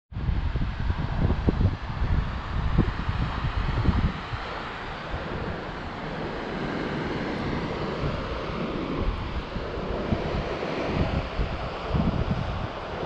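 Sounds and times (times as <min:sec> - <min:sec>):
steady rushing noise: 0:00.1 - 0:13.0
wind buffeting microphone: 0:00.1 - 0:13.0.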